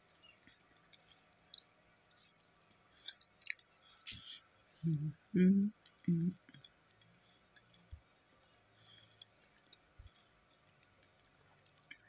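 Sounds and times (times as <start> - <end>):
mouth clicks and smacks: 0.4 - 4.4, 5.8 - 12.0.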